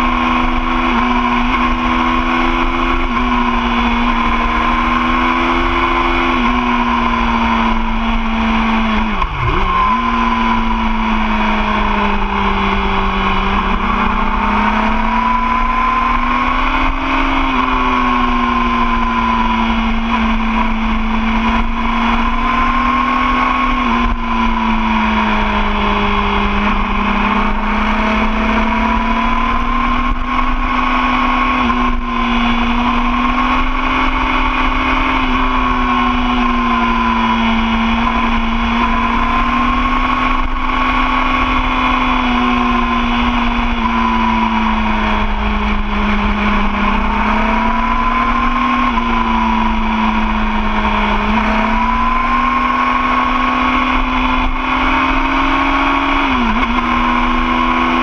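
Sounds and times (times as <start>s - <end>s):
motorcycle engine at steady speed: 0.0s - 58.0s.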